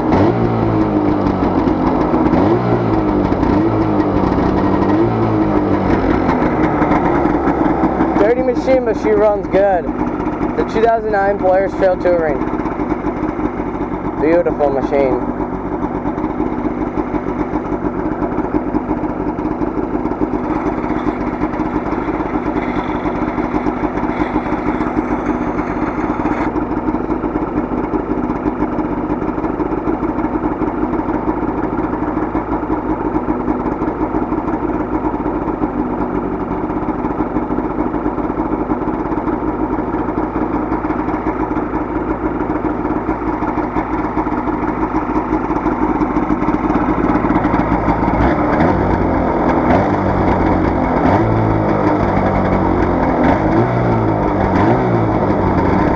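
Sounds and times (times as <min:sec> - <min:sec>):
snowmobile engine idling: 0:00.0 - 0:55.9.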